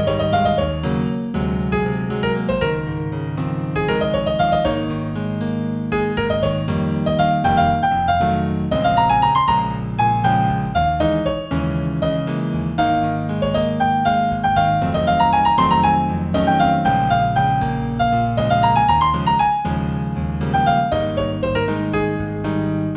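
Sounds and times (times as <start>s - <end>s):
solo piano music: 0.0s - 22.9s.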